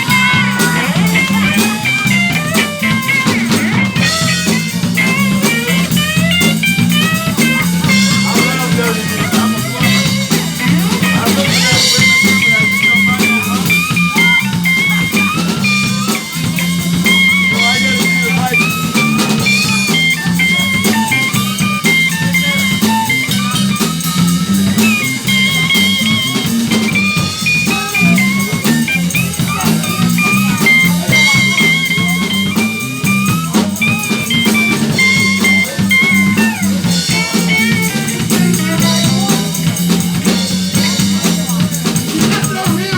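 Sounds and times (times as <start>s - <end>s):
drum kit: 0.0s - 42.9s
lead guitar solo: 0.0s - 42.9s
walking bass line: 0.0s - 42.9s.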